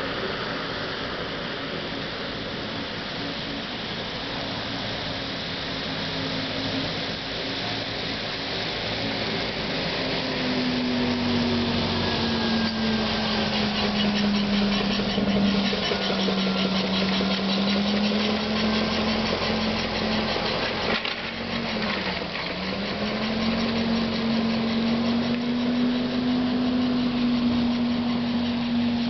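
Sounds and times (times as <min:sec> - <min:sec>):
trolleybus motor hum: 0:00.0 - 0:29.0
tyres on wet road: 0:00.0 - 0:29.0.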